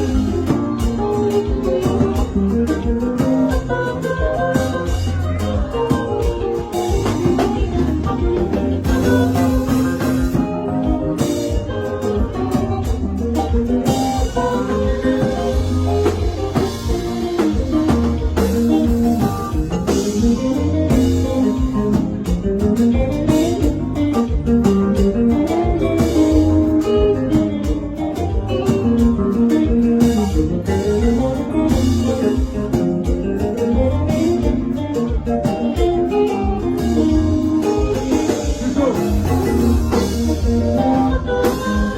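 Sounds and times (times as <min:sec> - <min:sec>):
bass: 0:00.0 - 0:41.9
drum kit: 0:00.0 - 0:41.9
guitar solo: 0:00.0 - 0:41.9.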